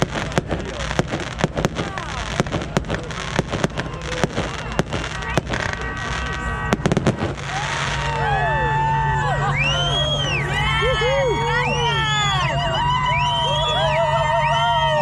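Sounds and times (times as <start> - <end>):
crowd chatter: 0.0 - 15.0
fireworks bangs and crackles: 0.0 - 15.0.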